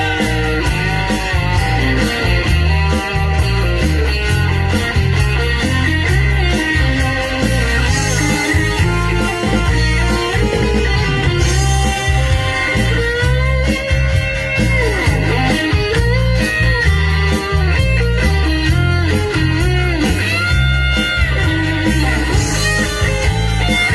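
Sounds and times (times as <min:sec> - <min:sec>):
bass line: 0:00.0 - 0:23.9
drums: 0:00.0 - 0:23.9
electric guitar lead: 0:00.0 - 0:23.9.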